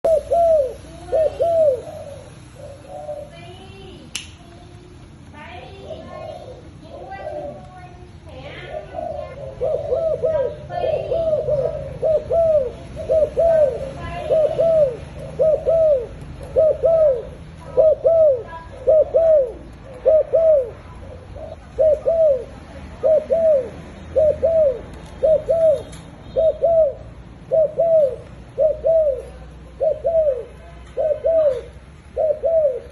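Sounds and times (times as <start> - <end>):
dove cooing: 0.0 - 4.1, 5.7 - 32.9.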